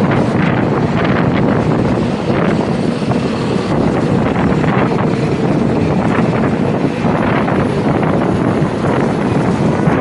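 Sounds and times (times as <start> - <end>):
bus travel noise: 0.0 - 10.0
wind rushing over microphone: 0.0 - 10.0.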